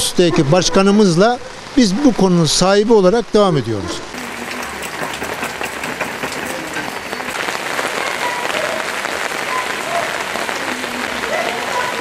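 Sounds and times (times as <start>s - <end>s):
rain pattering: 1.0s - 12.0s.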